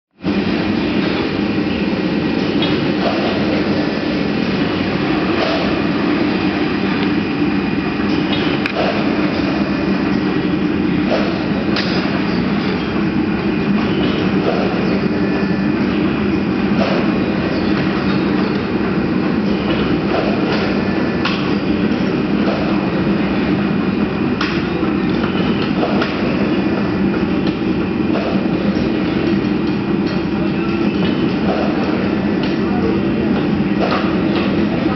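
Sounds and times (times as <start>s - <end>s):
printing machine humming: 0.2s - 34.9s.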